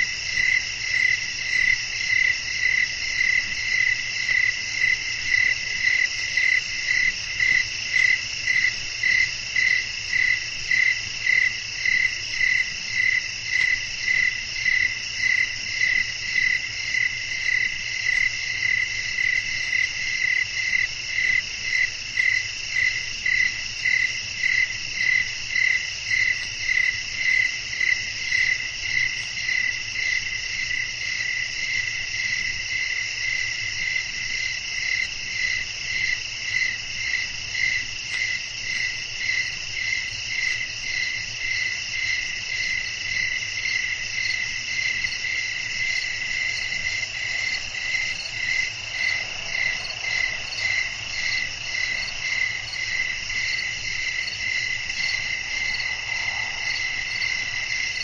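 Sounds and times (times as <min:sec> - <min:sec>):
crickets chirping: 0:00.0 - 0:58.0
high trill of insects: 0:00.4 - 0:58.0.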